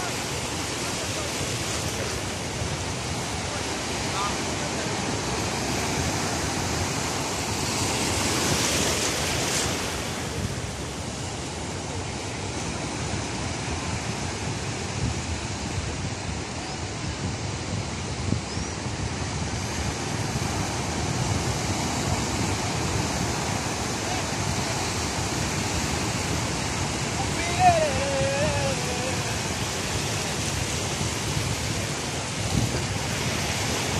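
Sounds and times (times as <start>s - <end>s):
waves washing up a beach: 0.0s - 33.9s.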